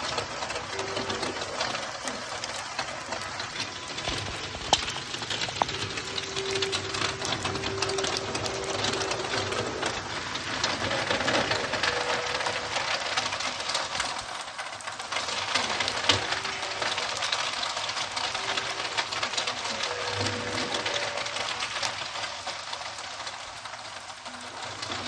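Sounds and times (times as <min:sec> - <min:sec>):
rain and hail on drum: 0:00.0 - 0:25.0.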